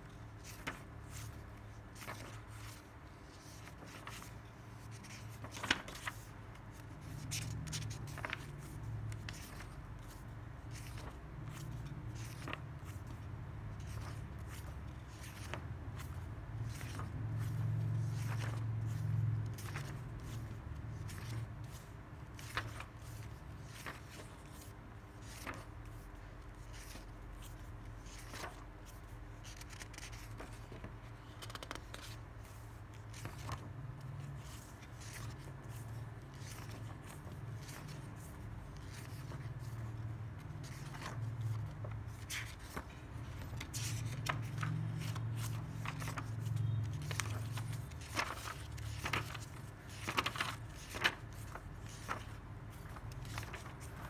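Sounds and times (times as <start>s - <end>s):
paper pages turning: 0.1s - 54.0s.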